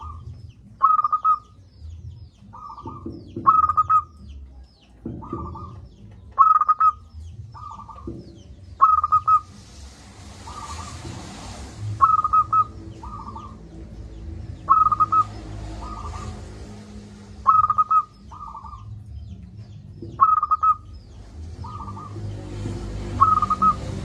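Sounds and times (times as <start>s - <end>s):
dove cooing: 0.0s - 1.6s, 2.5s - 4.4s, 5.1s - 9.5s, 11.9s - 24.0s
low background rumble: 0.0s - 24.0s.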